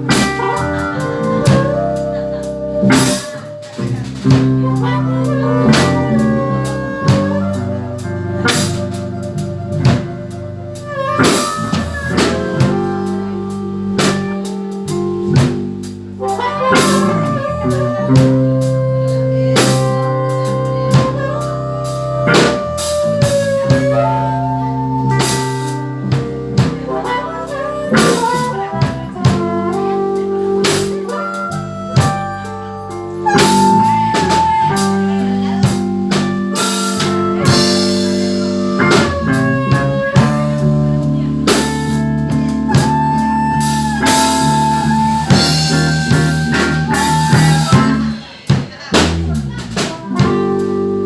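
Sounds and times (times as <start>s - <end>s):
drum kit: 0.0s - 51.0s
live blues band instrumental: 0.0s - 51.0s.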